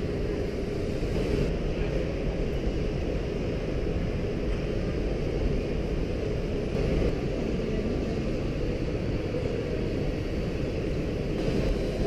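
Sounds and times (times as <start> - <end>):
exhibition hall background rumble: 0.0 - 12.0.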